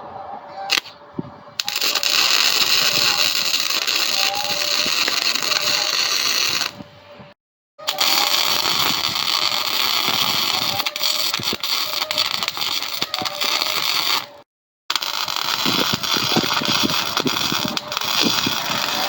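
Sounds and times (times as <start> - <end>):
arc welding crackling hiss: 1.6 - 6.9, 7.9 - 19.0.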